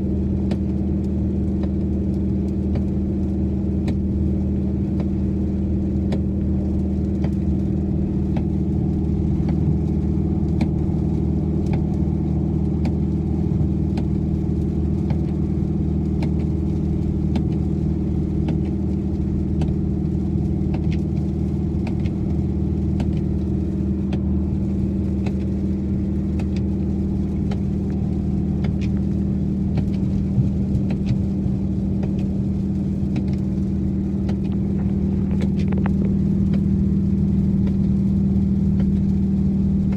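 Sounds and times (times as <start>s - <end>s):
car engine cruising: 0.0s - 39.9s
faint light ticks: 0.2s - 39.9s.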